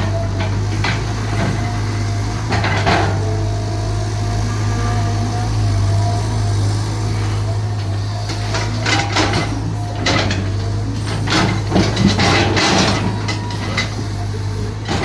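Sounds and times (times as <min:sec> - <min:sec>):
excavator clanks and knocks: 0:00.0 - 0:06.4, 0:07.3 - 0:15.0
diesel engine drone: 0:00.0 - 0:15.0.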